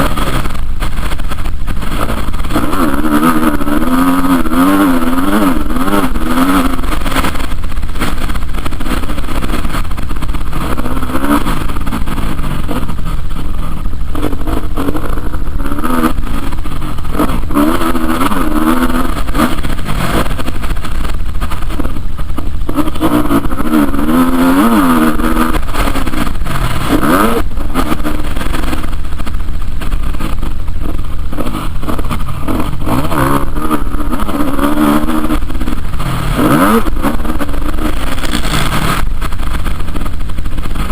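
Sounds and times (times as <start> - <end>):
motocross motorcycle engine revving: 0.0 - 40.9.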